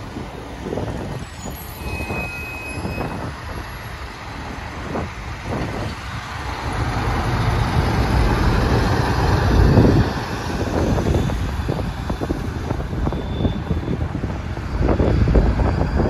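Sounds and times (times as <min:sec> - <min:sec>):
truck diesel engine: 0:00.0 - 0:16.0.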